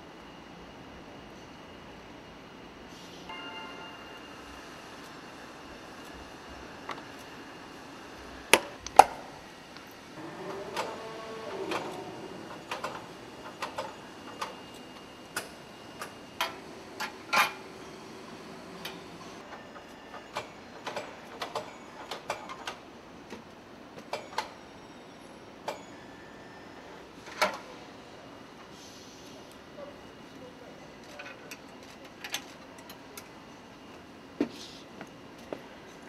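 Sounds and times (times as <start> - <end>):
faint factory background: 0.0 - 36.0.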